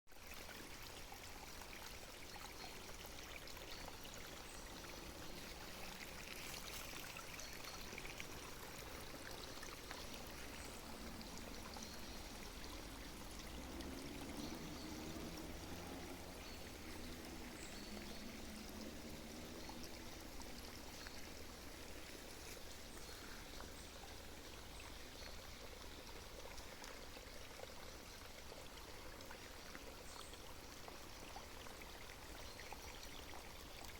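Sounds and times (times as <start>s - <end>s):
stream babbling and trickling: 0.1s - 33.9s.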